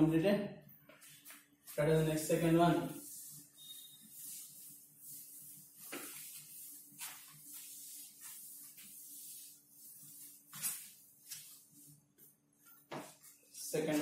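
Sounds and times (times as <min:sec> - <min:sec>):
duster wiping blackboard: 0:01.0 - 0:12.3.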